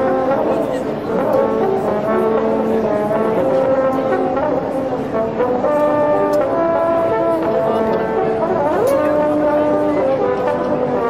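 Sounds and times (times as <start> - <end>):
large crowd noise: 0.0 - 11.0.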